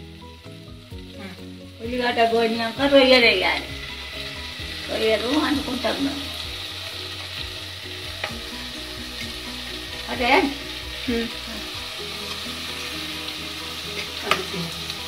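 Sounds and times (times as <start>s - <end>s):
oil sizzling with frying onions: 0.0s - 15.0s.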